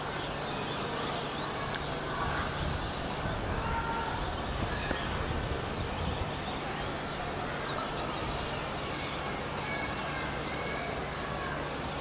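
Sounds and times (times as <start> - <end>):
flock of birds chirping: 0.0 - 12.0
low city rumble: 0.0 - 12.0.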